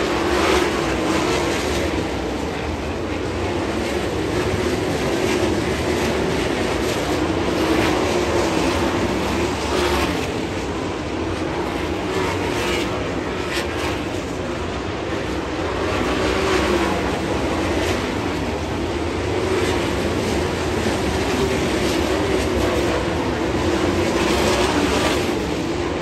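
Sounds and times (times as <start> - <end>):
race car engines racing: 0.0 - 26.0.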